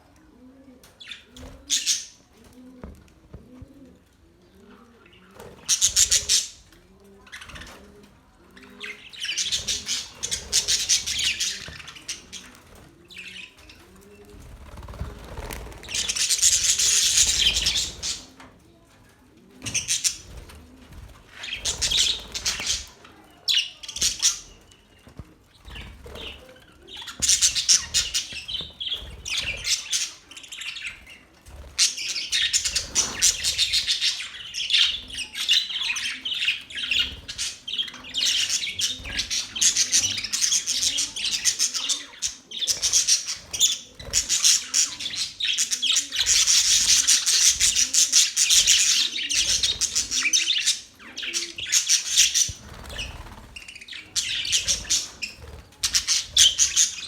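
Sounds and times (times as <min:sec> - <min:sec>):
budgerigars chirping and chattering: 0:00.9 - 0:02.3, 0:04.8 - 0:07.8, 0:08.5 - 0:18.4, 0:19.6 - 0:57.0.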